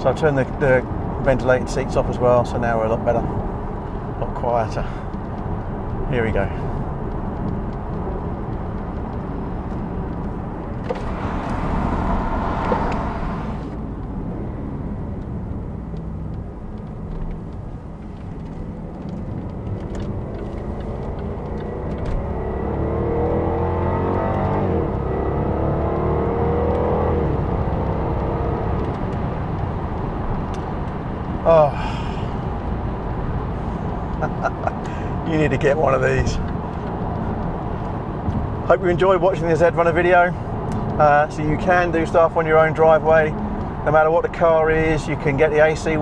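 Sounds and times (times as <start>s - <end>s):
car engine from inside cabin: 0.0s - 46.0s.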